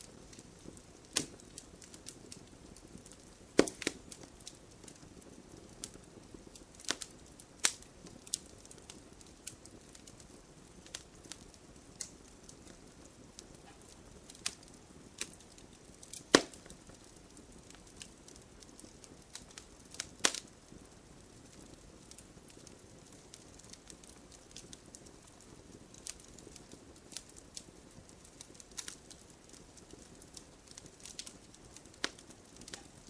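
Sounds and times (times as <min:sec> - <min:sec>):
fire popping: 0:00.0 - 0:33.0
wood fire crackling: 0:00.0 - 0:33.0.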